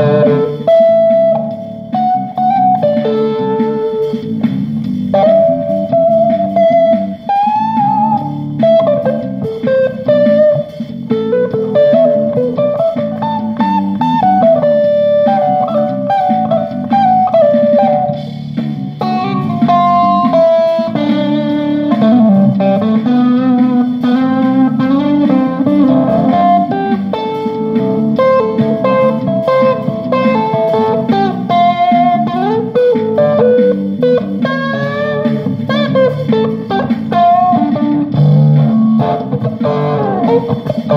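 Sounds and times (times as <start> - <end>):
electric guitar lead line: 0.0 - 40.9
lower guitar accompaniment: 0.0 - 40.9.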